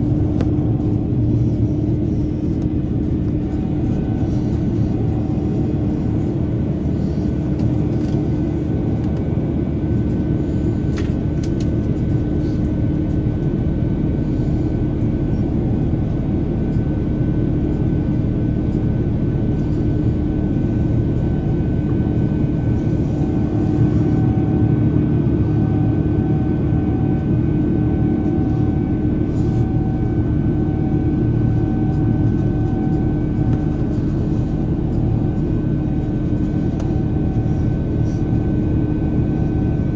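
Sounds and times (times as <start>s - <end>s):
air rushing along fuselage: 0.0s - 39.9s
airplane cabin engine drone: 0.0s - 39.9s.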